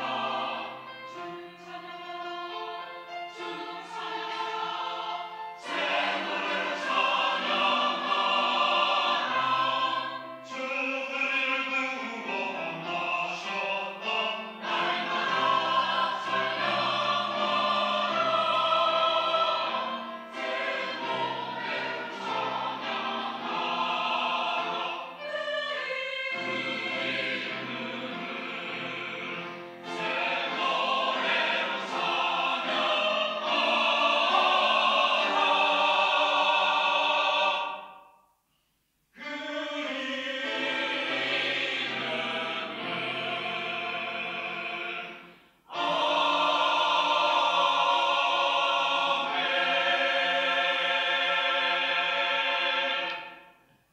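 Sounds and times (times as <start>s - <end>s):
choir singing: 0.0s - 38.2s, 39.2s - 53.6s.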